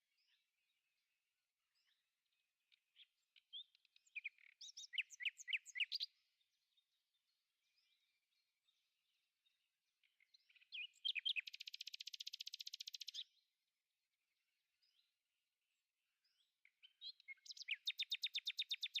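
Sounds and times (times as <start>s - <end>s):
songbird singing with trill: 0.0s - 13.6s, 16.2s - 19.0s.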